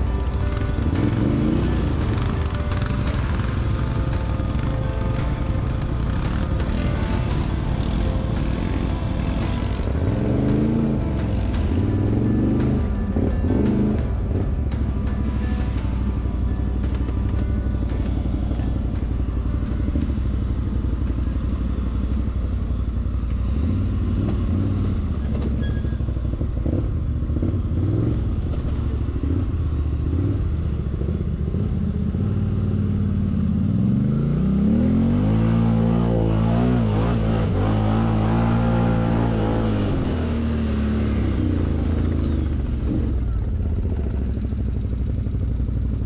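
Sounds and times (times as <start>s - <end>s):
atv engine revving: 0.0s - 16.3s, 19.7s - 46.0s.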